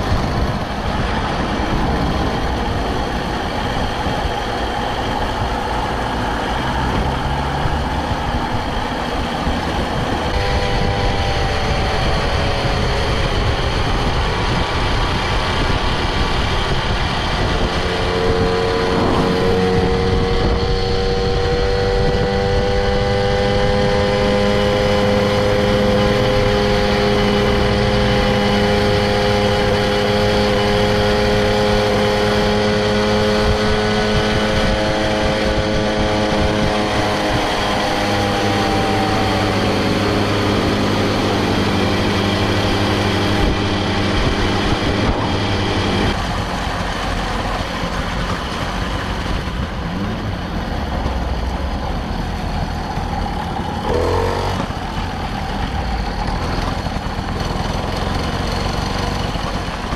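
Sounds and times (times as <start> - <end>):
moped engine running: 0.0 - 59.9.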